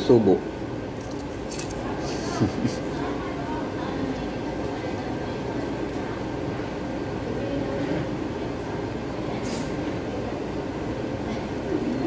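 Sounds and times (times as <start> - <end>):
faint murmur of voices: 1.5 - 12.0.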